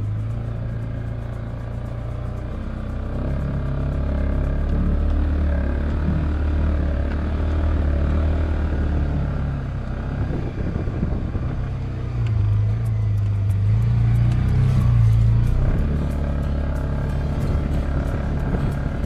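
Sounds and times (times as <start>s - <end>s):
single-cylinder engine running: 0.0s - 19.0s.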